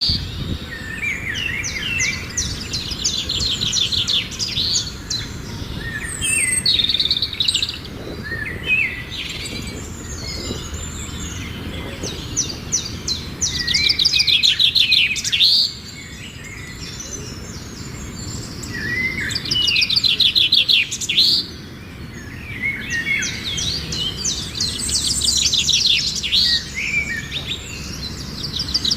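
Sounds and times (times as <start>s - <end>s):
songbirds trilling and chirping: 0.0s - 28.9s.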